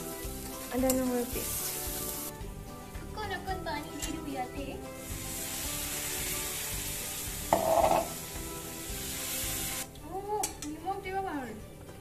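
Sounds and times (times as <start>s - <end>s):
food sizzling in hot oil: 0.0s - 9.9s.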